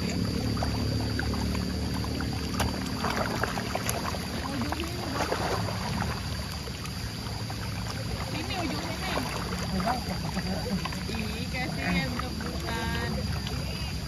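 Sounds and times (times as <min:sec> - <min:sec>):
fish thrashing and splashing water: 0:00.0 - 0:14.0.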